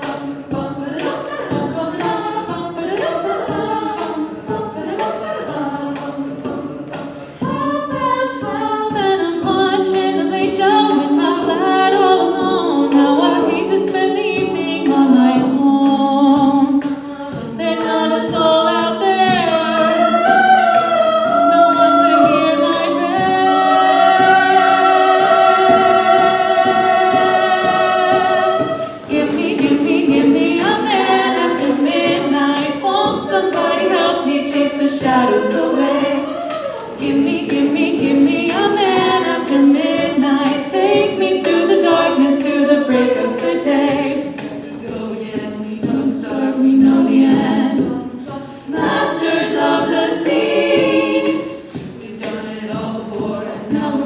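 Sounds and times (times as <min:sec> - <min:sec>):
a cappella group singing: 0:00.0 - 0:54.0
vocal percussion beat: 0:00.0 - 0:54.0.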